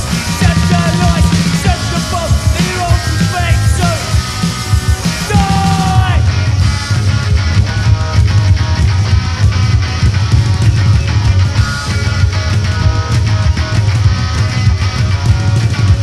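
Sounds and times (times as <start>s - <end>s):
bass guitar: 0.0s - 16.0s
electric guitar: 0.0s - 16.0s
steady drum beats: 0.0s - 16.0s.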